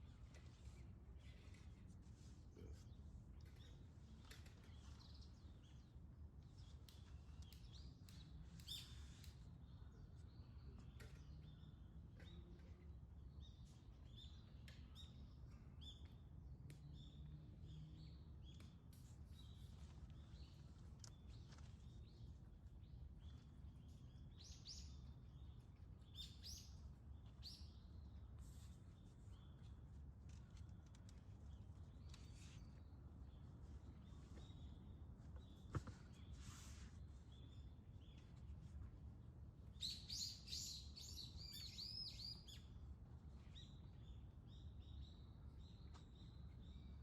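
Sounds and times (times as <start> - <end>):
small birds chirping: 0.0 - 38.8, 39.6 - 47.0.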